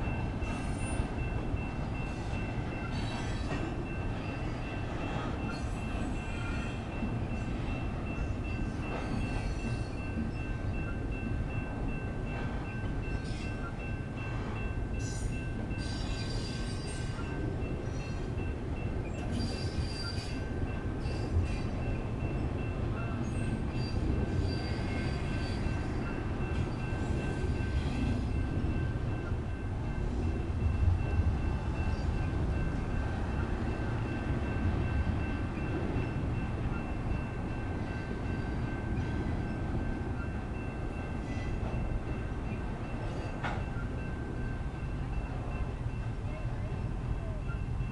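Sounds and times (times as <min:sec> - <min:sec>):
crossing warning bells: 0:00.0 - 0:47.9
train wheels rumbling on rails: 0:00.0 - 0:47.9.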